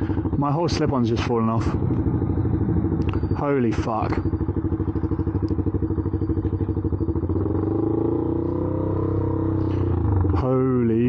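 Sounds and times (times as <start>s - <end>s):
loud motorcycle engine: 0.0s - 11.0s.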